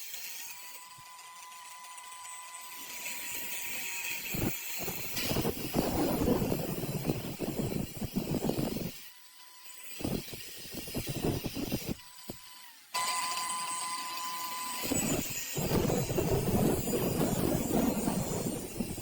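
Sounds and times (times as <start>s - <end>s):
thin steady high tone: 0.3s - 10.3s, 11.0s - 19.0s.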